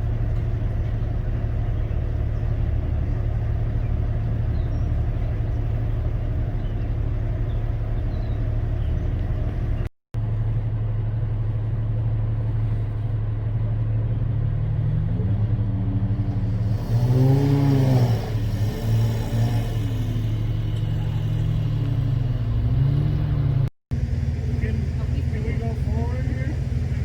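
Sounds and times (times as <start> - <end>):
vehicle engine idling and revving: 0.0 - 27.0.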